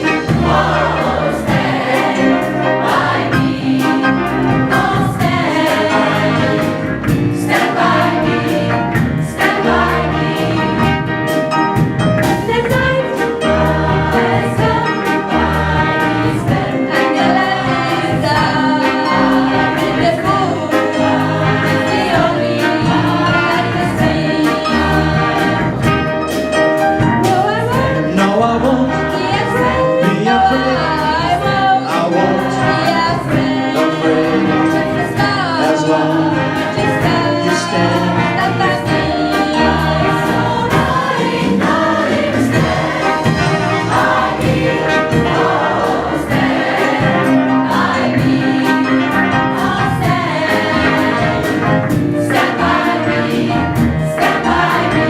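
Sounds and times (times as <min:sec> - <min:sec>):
band accompaniment: 0:00.0 - 0:55.0
gospel choir singing: 0:00.0 - 0:55.0.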